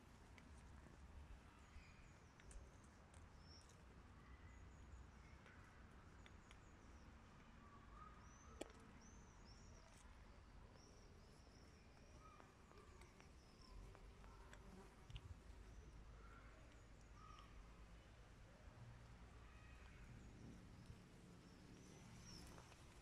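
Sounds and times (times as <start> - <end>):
faint birdsong chirping: 0.0 - 23.0.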